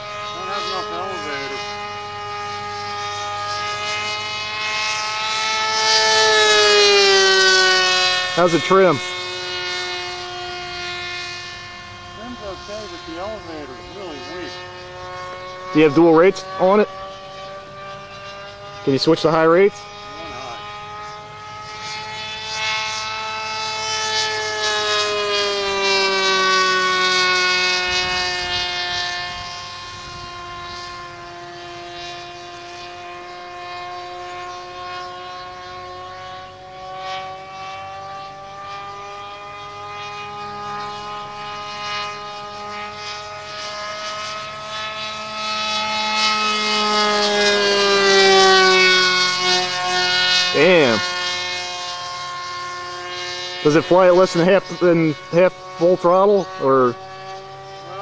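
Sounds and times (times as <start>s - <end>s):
model plane engine whining: 0.0s - 58.0s.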